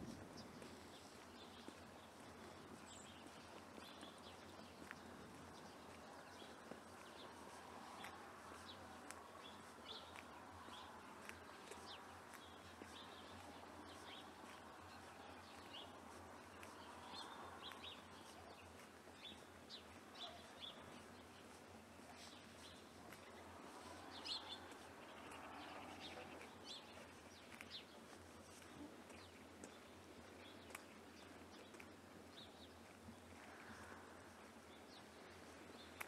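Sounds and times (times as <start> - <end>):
small birds chirping: 0.1 - 36.0.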